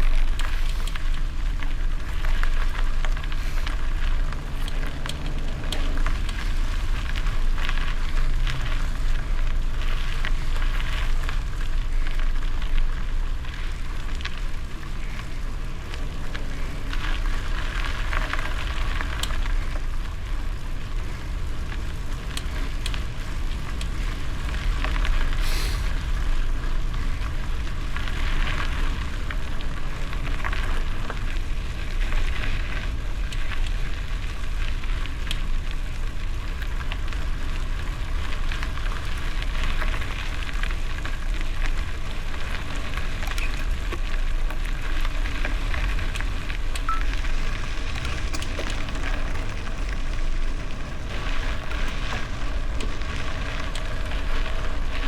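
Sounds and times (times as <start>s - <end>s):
bicycle tyres on gravel: 0.0s - 55.0s.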